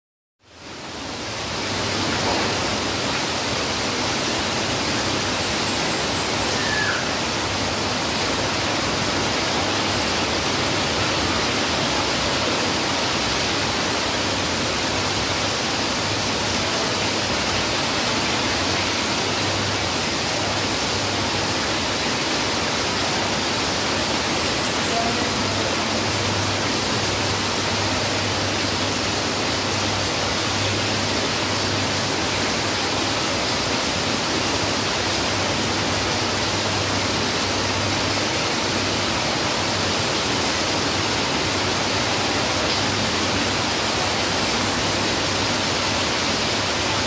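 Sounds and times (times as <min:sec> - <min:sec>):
heavy rain falling: 0:00.5 - 0:47.0.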